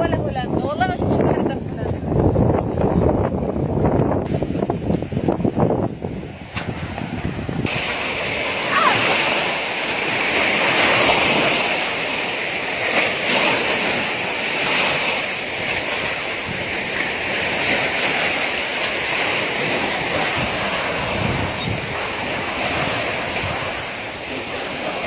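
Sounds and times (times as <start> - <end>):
sea waves washing: 0.0 - 25.0
wind buffeting microphone: 0.0 - 25.0.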